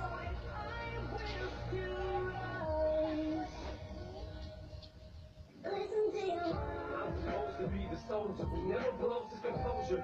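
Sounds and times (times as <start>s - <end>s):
music with held melody notes: 0.0s - 10.0s.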